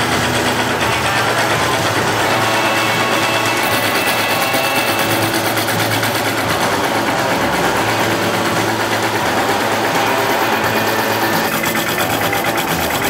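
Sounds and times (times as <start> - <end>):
power shear blade chattering: 0.0 - 13.0.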